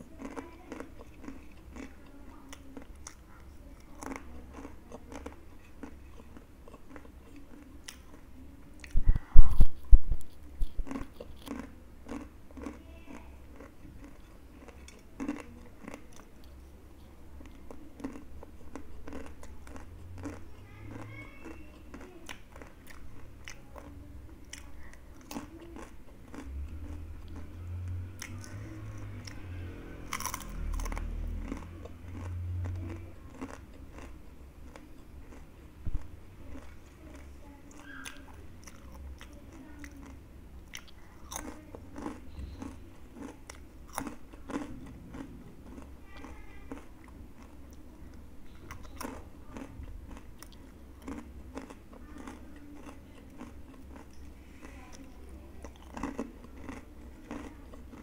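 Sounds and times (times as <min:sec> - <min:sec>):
crunching crispy snacks: 0:00.1 - 0:03.3, 0:10.3 - 0:16.6, 0:17.5 - 0:27.5, 0:28.1 - 0:35.4, 0:36.5 - 0:47.8, 0:48.6 - 0:58.0.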